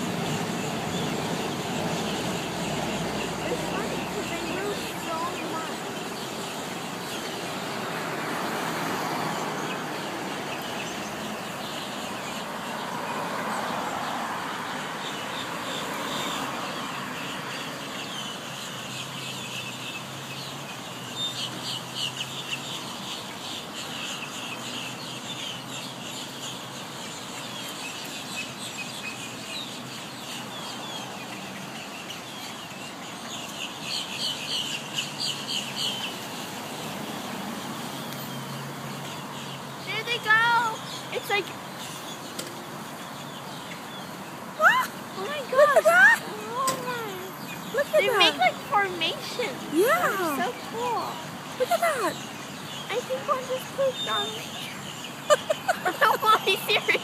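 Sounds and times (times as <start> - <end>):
road traffic hum: 0.0 - 57.0
starlings chattering: 0.0 - 57.0.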